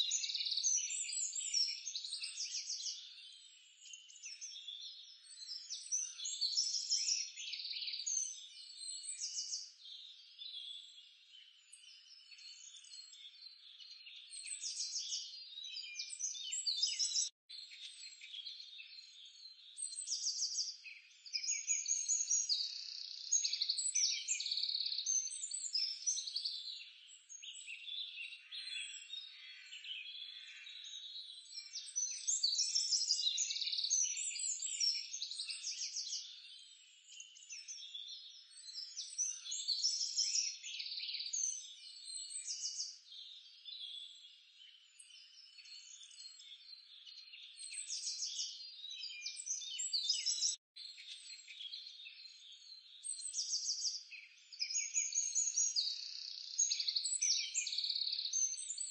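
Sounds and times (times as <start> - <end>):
small birds chirping and trilling: 0.0 - 58.9.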